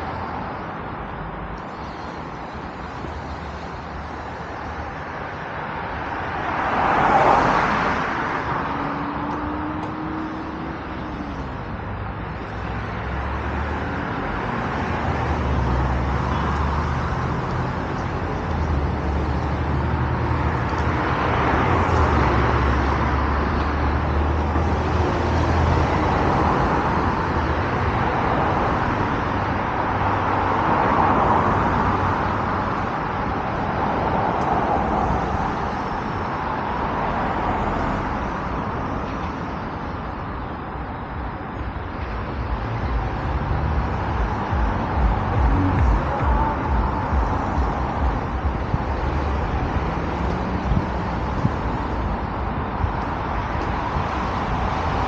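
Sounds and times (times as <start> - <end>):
cars passing: 0.0 - 55.0
low traffic rumble: 0.0 - 55.0.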